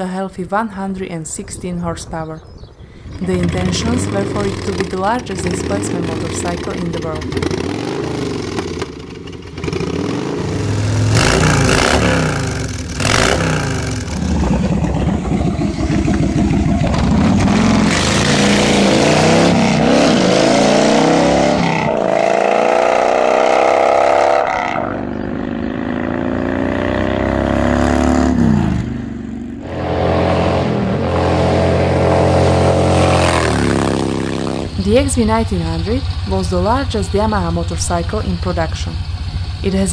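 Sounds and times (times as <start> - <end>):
motorcycle engine revving and accelerating: 3.2 - 39.9.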